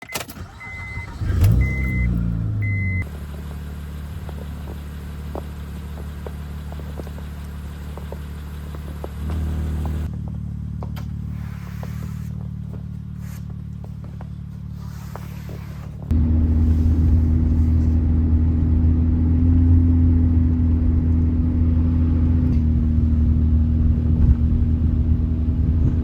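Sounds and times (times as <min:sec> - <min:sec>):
car engine starting and idling: 0:00.0 - 0:26.0.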